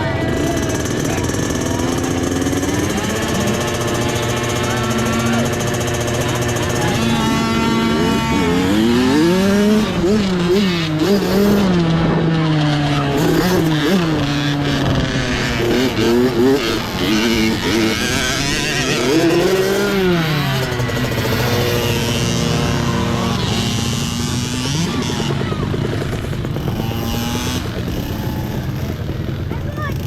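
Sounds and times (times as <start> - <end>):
mini bike engines revving: 0.0 - 30.0.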